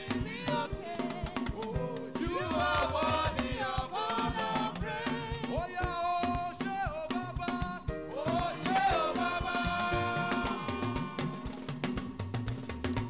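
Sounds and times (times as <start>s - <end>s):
driving drum beat: 0.0s - 13.0s
worship band music: 0.0s - 13.0s.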